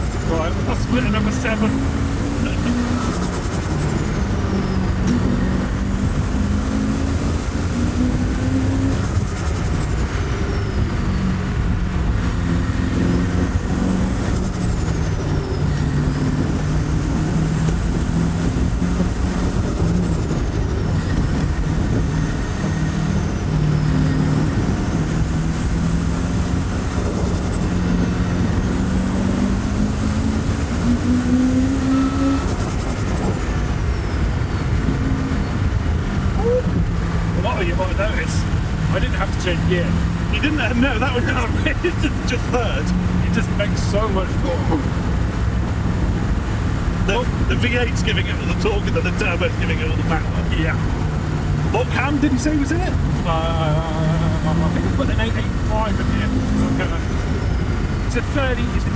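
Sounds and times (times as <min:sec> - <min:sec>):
car engine pulling hard: 0:00.0 - 0:58.9.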